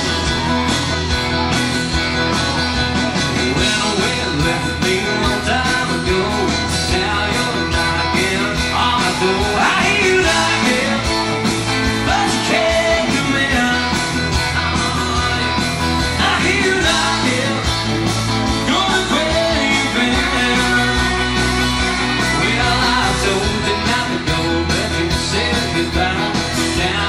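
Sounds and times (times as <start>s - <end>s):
drums: 0.0s - 27.0s
rock and roll band playing: 0.0s - 27.0s
man singing into microphone: 3.3s - 17.8s, 18.6s - 27.0s.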